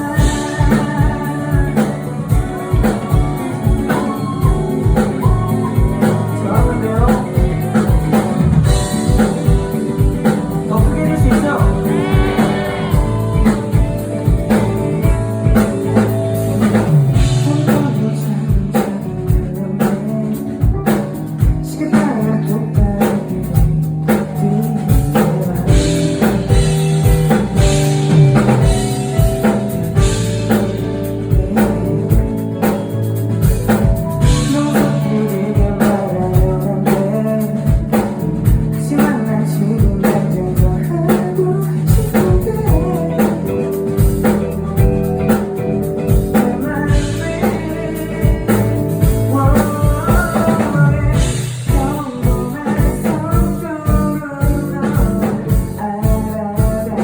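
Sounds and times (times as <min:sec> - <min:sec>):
person singing: 0:00.0 - 0:27.0, 0:27.6 - 0:57.0
drum kit beats: 0:00.0 - 0:57.0
guitar: 0:00.0 - 0:57.0.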